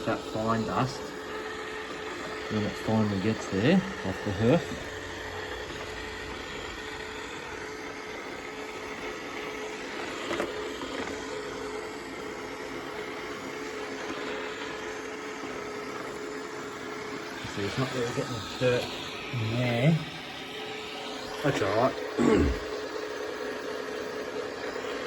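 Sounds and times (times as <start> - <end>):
robot vacuum cleaner humming: 0.0 - 25.0.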